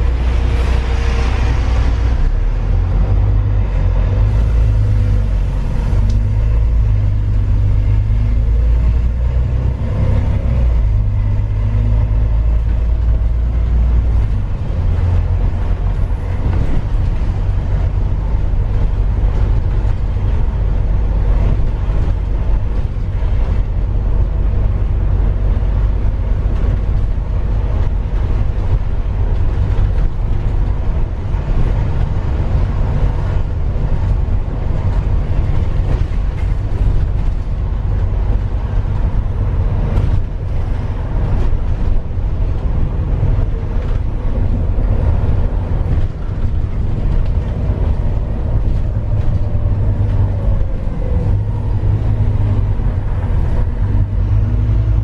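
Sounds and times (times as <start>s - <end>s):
road rumble: 0.0s - 55.0s
vehicle engine drone: 0.0s - 55.0s.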